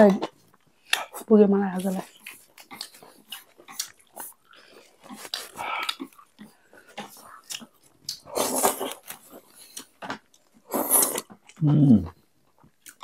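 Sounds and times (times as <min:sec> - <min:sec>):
chewing with mouth clicks: 0:00.0 - 0:13.0.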